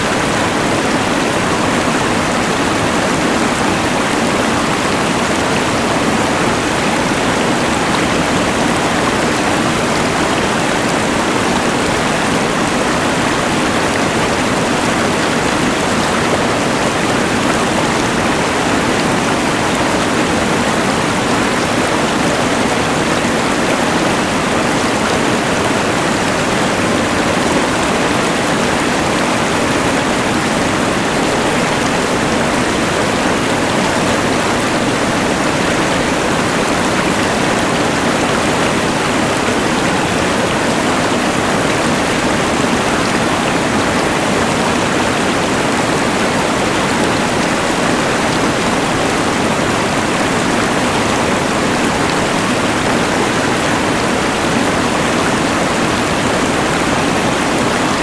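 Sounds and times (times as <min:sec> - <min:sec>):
mountain river rushing: 0:00.0 - 0:58.0.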